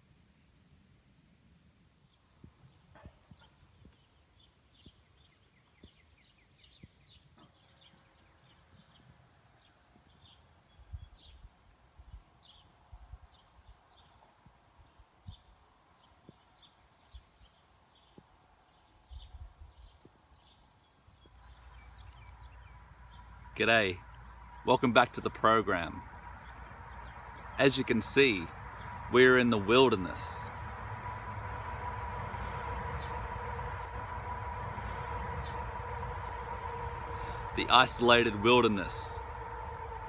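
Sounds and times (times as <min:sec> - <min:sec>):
insects droning: 0:00.0 - 0:40.0
short insect chirps: 0:00.0 - 0:40.0.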